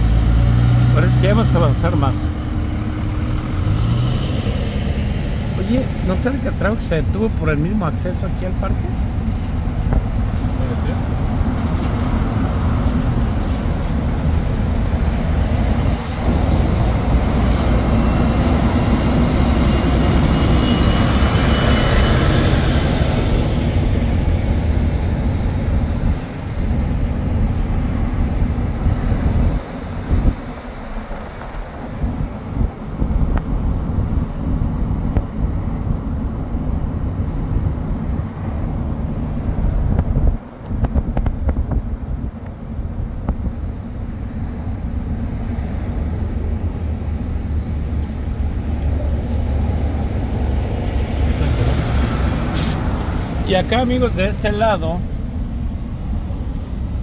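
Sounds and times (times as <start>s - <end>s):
highway traffic rumble: 0.0s - 57.0s
road and wind noise: 0.0s - 57.0s
truck running alongside: 0.0s - 57.0s.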